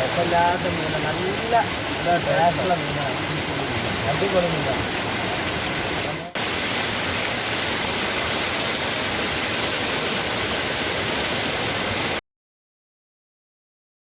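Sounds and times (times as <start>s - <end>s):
stream water rushing: 0.0s - 12.2s.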